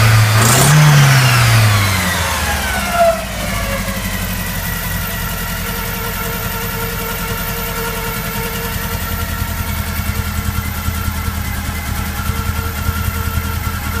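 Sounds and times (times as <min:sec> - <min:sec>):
car engine running unevenly: 0:00.0 - 0:14.0.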